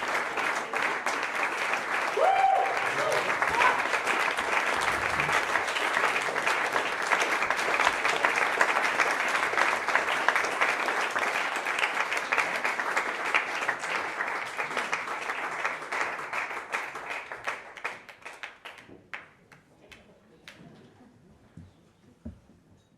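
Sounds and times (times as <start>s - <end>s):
crowd applauding: 0.0s - 20.6s.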